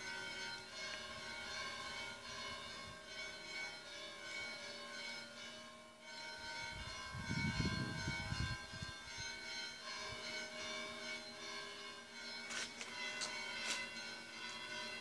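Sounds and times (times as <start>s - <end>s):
bells ringing: 0.0s - 15.0s.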